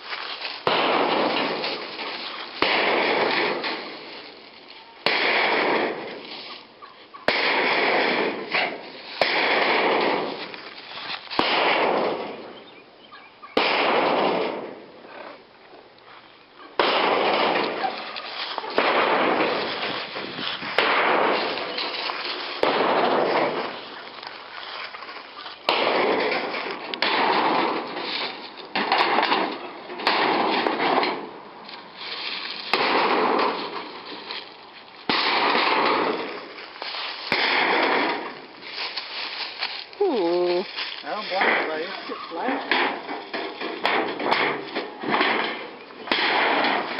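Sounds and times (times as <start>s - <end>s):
wood cracking and snapping: 0.0s - 6.5s, 7.3s - 12.4s, 16.8s - 40.0s, 42.5s - 46.9s
shed crashing and crunching: 0.0s - 6.6s, 7.2s - 12.6s, 13.6s - 14.9s, 16.8s - 39.8s, 40.7s - 46.9s.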